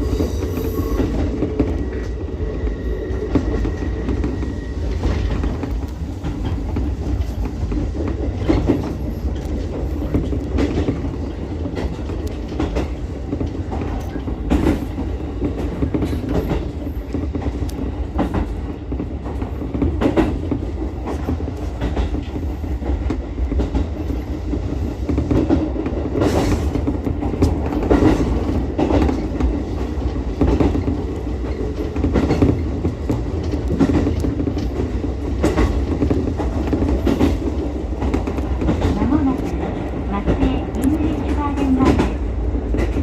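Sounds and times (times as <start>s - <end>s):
train running with low rumble: 0.0s - 43.0s
train wheels clacking over rail joints: 3.0s - 43.0s.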